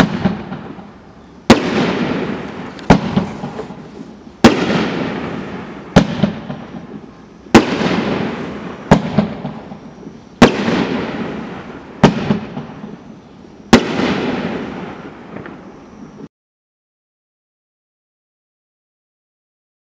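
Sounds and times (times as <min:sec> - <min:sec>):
fireworks bangs: 0:00.0 - 0:16.2.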